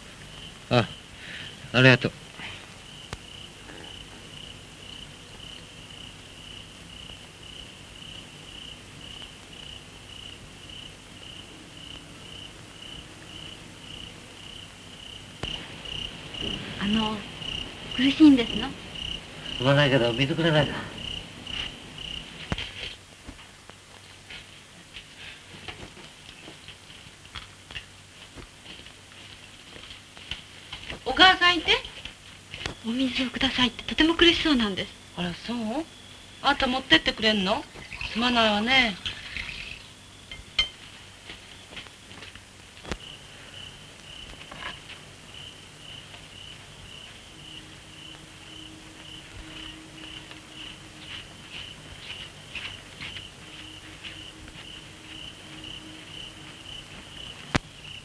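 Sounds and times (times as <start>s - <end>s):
crickets chirping: 0.0s - 58.0s
film soundtrack hiss and crackle: 0.0s - 58.0s.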